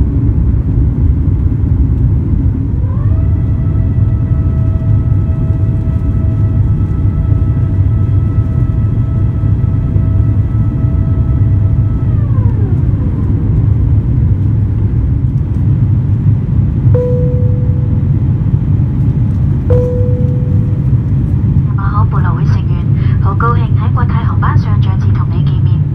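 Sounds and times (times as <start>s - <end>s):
airplane cabin rumble: 0.0s - 25.9s
jet engine whine: 0.0s - 25.9s.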